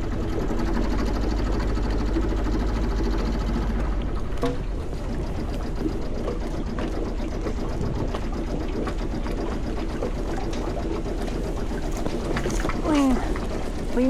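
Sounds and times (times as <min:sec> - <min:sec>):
boat engine clattering: 0:00.0 - 0:14.0
water noise: 0:00.0 - 0:14.0
wind: 0:00.0 - 0:14.0.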